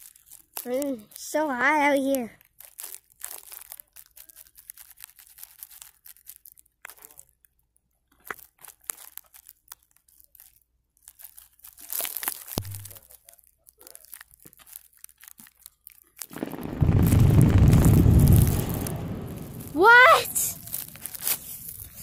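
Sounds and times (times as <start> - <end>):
rustling and crackling: 0.0 - 7.5, 8.1 - 22.0.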